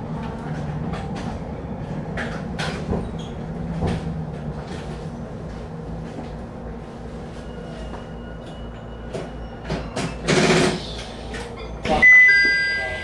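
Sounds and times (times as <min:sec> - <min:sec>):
electric train low hum: 0:00.0 - 0:13.0.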